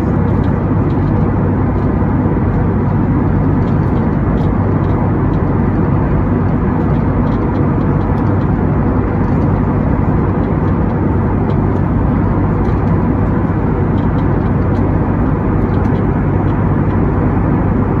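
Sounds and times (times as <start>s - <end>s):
airliner cabin rumble: 0.0s - 18.0s
low hum: 0.0s - 18.0s.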